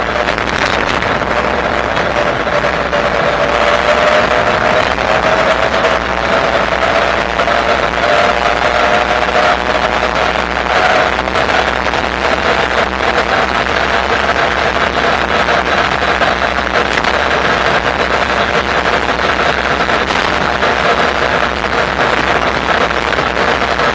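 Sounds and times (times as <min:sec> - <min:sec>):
low motor hum: 0:00.0 - 0:23.9
wind: 0:00.0 - 0:23.9.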